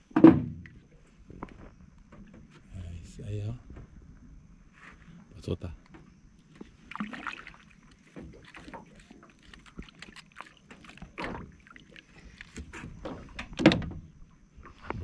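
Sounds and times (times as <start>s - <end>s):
handling knocks and clicks in boat: 0.0s - 4.2s, 5.6s - 15.0s.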